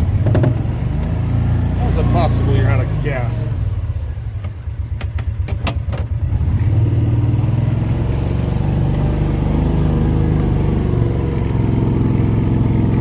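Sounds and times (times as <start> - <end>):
vehicle engine chugging: 0.0 - 13.0.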